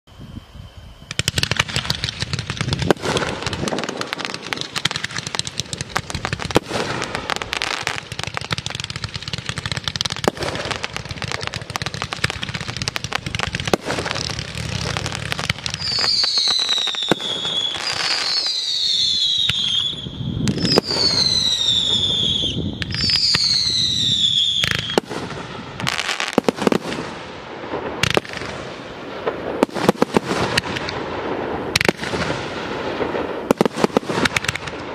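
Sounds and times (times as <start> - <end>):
whistling firework shells: 0.0 - 34.9
fireworks bangs and crackling: 1.0 - 34.9.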